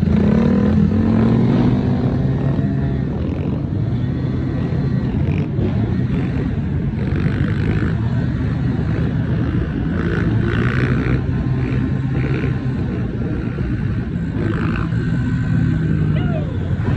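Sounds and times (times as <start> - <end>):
small motorcycle engines running: 0.0 - 16.9.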